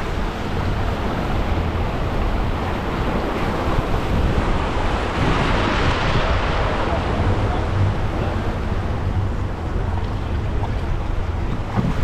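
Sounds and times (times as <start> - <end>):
small waves breaking on beach: 0.0 - 12.0
wind rumbling on microphone: 0.0 - 12.0.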